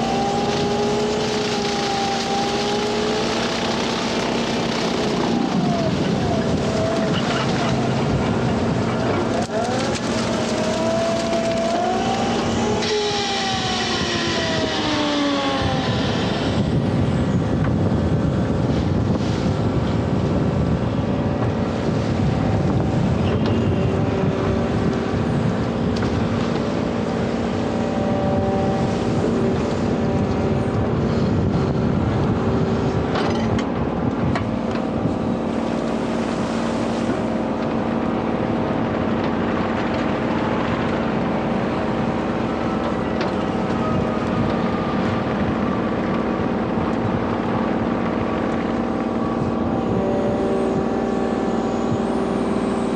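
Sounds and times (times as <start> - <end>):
excavator engine and brush cutter drone: 0.0 - 52.9.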